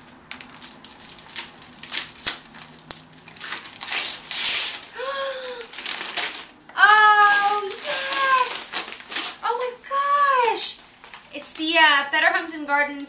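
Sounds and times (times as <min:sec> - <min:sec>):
paper bag and tissue rustling: 0:00.0 - 0:13.0.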